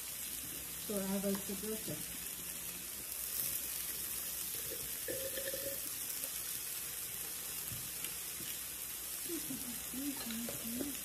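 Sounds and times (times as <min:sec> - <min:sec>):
meat sizzling on grill plate: 0:00.0 - 0:11.0.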